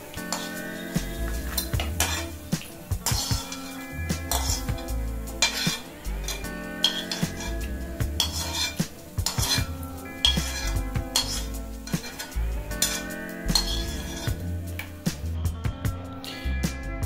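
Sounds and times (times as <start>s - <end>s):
metal spoon scraping a pan: 0.0s - 14.9s.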